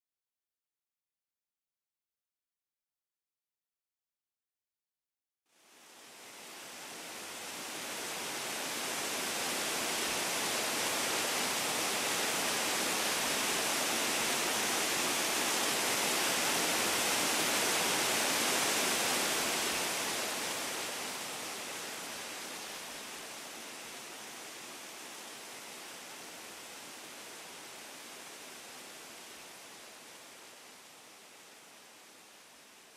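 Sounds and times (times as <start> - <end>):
small waterfall rushing: 5.5 - 32.9.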